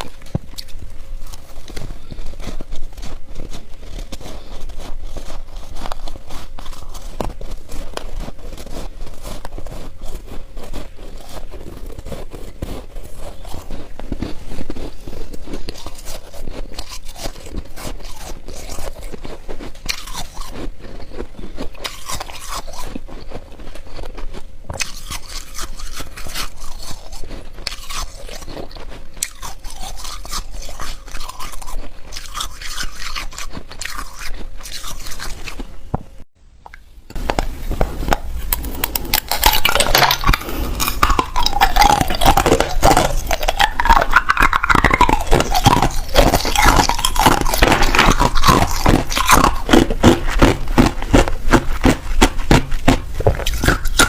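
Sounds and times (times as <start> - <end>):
person crunching ice: 0.0 - 35.7, 37.1 - 54.0.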